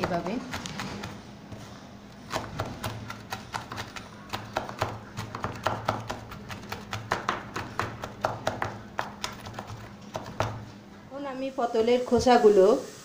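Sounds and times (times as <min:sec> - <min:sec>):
knife chopping on plastic board: 0:00.0 - 0:10.8.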